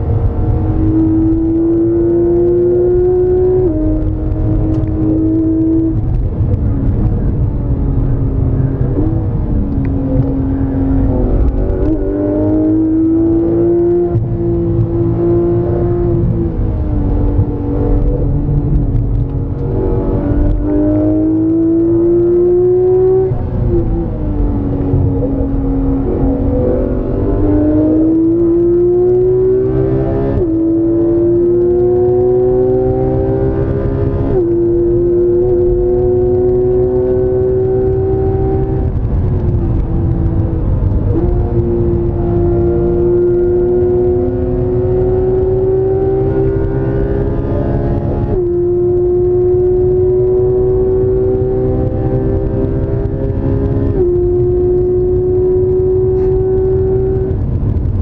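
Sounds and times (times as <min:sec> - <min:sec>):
car engine revving at full throttle: 0:00.0 - 0:58.0
tyre and road rumble: 0:00.0 - 0:58.0.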